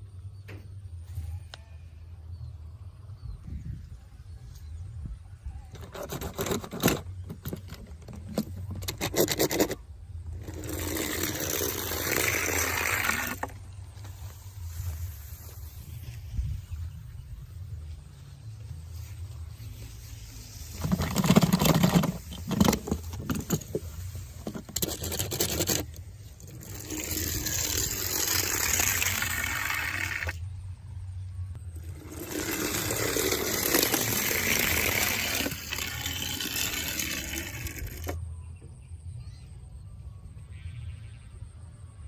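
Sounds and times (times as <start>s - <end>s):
continuous scraping noise: 0.0s - 39.2s.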